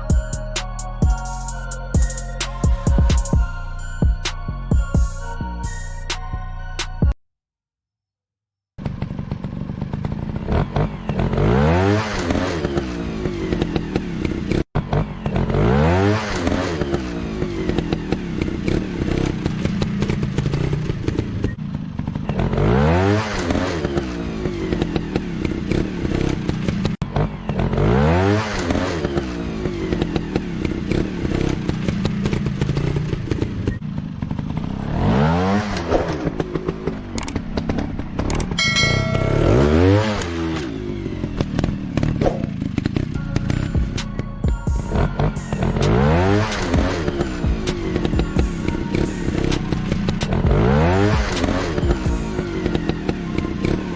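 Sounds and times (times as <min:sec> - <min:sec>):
dirt bike engine revving: 0:08.8 - 0:44.2, 0:44.8 - 0:53.9.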